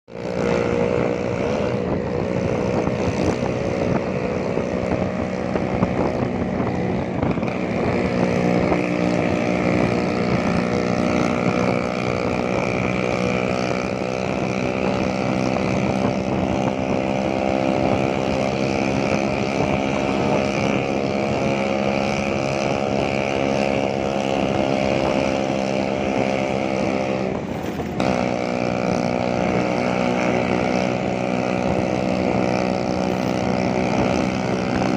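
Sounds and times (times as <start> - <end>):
scooter two-stroke engine running: 0.1 - 34.9.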